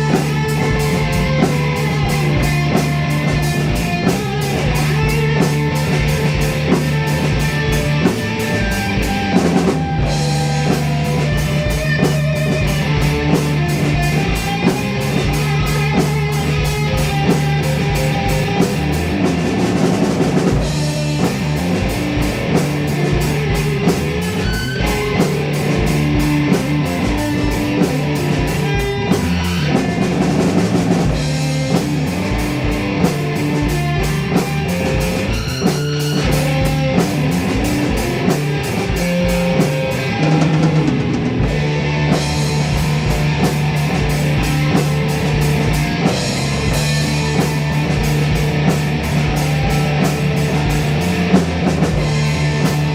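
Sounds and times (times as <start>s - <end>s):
distorted electric guitar: 0.0s - 52.9s
held bass notes: 0.0s - 52.9s
steady drum beat: 0.0s - 52.9s.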